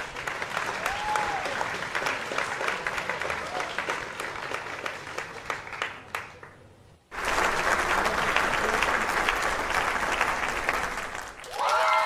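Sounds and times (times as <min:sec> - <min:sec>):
many hands clapping: 0:00.0 - 0:12.0.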